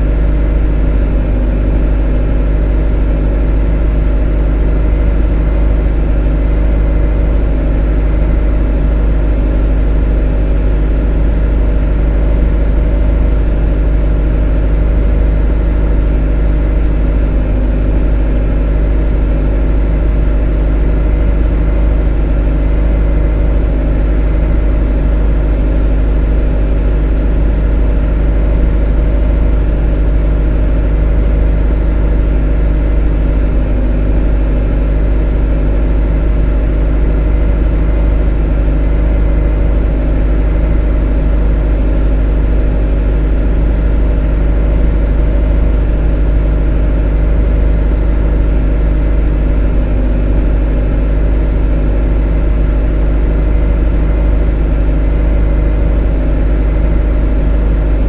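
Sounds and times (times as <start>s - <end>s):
motor humming steadily: 0.0s - 58.0s.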